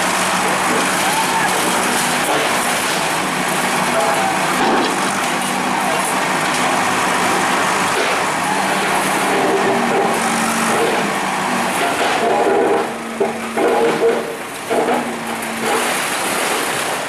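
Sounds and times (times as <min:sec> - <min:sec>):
bulldozer diesel engine running: 0:00.0 - 0:16.8.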